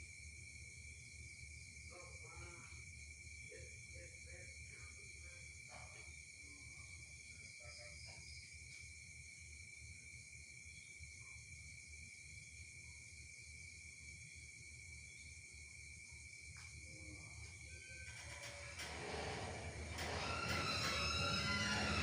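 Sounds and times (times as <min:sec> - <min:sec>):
high-pitched insect chirring: 0:00.1 - 0:18.8.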